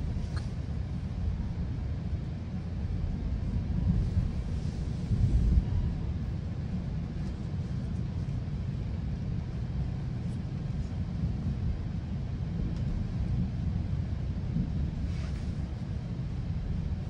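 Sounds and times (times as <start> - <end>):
train wheels rumbling on track: 2.6 - 17.0.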